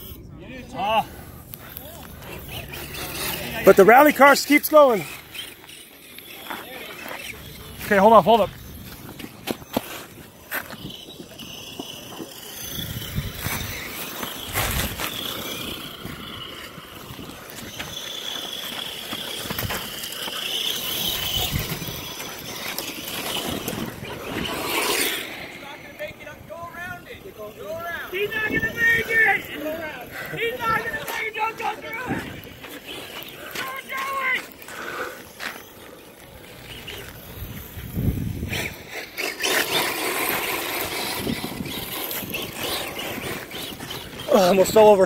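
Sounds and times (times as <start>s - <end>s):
electric motor and gear whine: 0.0s - 45.0s
rc cars driving over dirt: 0.0s - 45.0s
tyres crunching on gravel: 1.0s - 45.0s.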